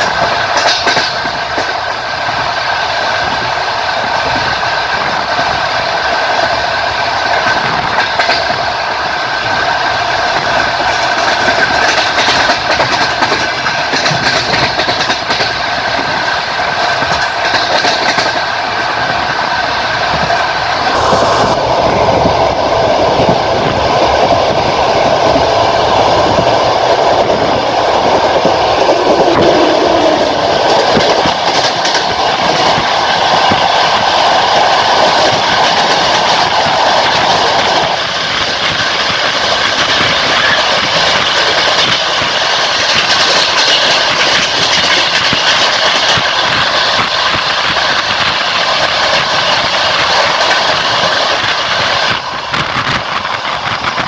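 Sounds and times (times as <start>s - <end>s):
train wheels clattering over rail joints: 0.0s - 20.6s, 23.2s - 54.0s
train running rumble and whine: 0.0s - 54.0s.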